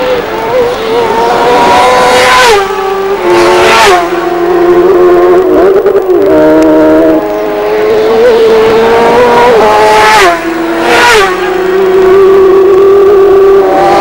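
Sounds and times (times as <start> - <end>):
racing motorcycles passing: 0.0 - 14.0.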